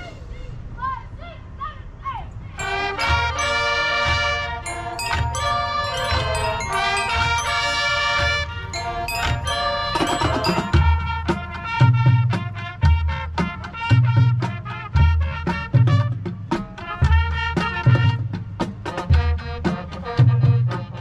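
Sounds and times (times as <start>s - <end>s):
marching band winds and brass: 2.4s - 21.0s.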